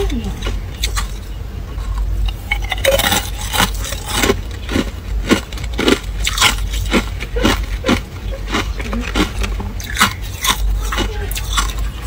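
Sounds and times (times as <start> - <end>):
ice being chewed: 0.3 - 12.0.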